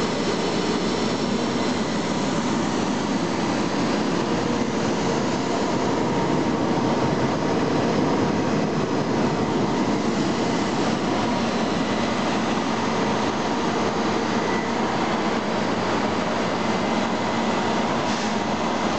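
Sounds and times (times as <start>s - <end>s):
faint constant whines: 0.0s - 18.9s
truck engine and water pump drone: 0.0s - 18.9s.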